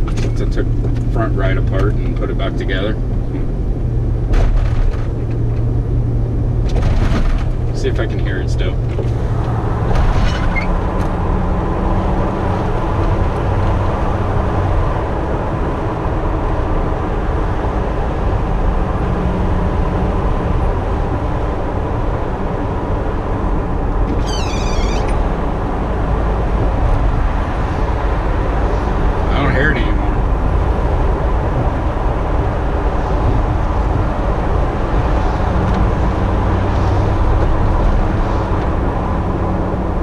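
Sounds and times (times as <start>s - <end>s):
car engine while driving: 0.0s - 40.0s.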